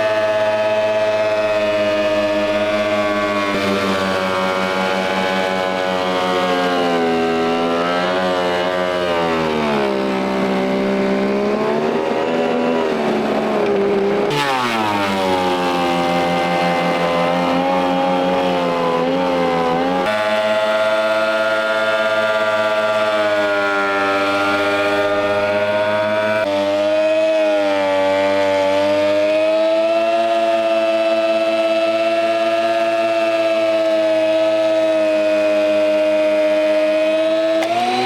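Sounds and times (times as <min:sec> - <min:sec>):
thickness planer planing boards: 0:00.0 - 0:38.0.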